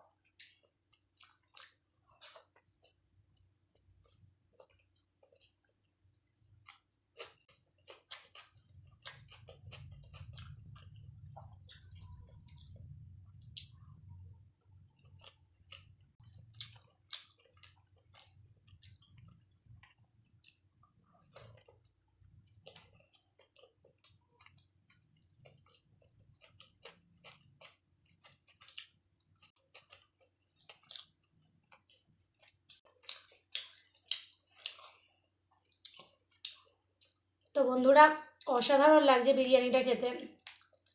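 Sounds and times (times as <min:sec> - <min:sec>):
person chewing food: 0:00.0 - 0:37.6, 0:40.4 - 0:40.9.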